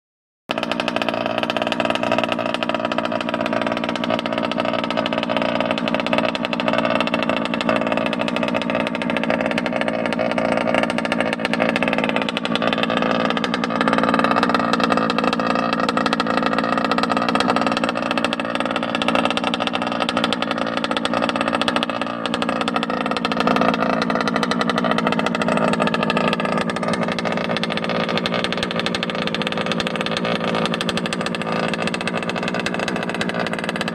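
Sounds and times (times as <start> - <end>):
two-stroke engine running: 0.5 - 33.9.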